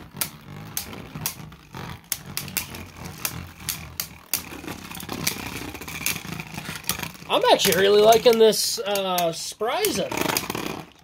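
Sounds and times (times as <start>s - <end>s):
low whirring rumble: 0.0s - 11.0s
spinning tops clicking: 0.0s - 11.0s.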